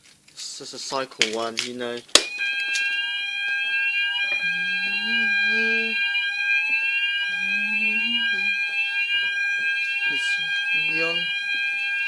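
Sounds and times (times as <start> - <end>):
fire alarm tone and sweep: 2.1 - 12.0.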